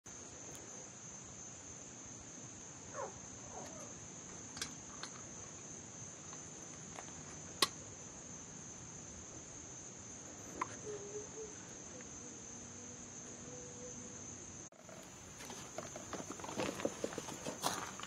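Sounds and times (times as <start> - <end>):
insects chorus: 0.1 - 18.0.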